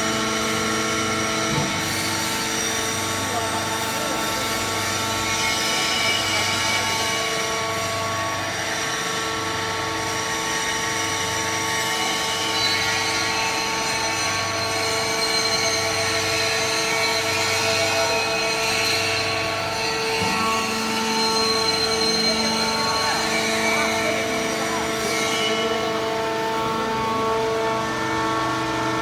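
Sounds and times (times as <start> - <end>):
hydraulic pump motor humming and whining: 0.0 - 29.0.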